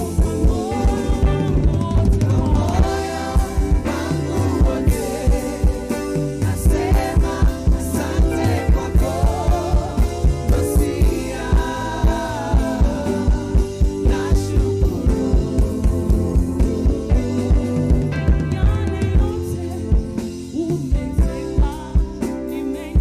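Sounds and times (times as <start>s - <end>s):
gospel band playing: 0.0s - 23.0s.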